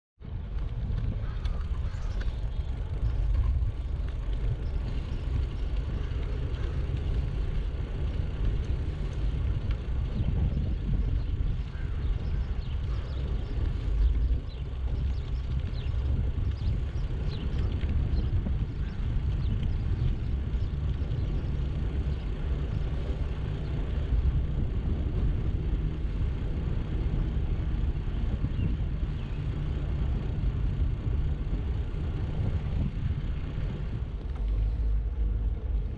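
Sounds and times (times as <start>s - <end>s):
bicycle riding noise: 0.2s - 35.9s
wind buffeting microphone: 0.2s - 35.9s.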